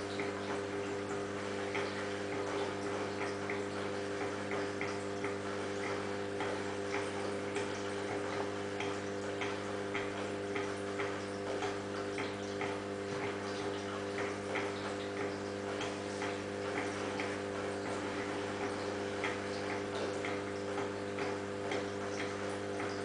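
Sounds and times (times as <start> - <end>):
aquarium pump hum: 0.0 - 23.0.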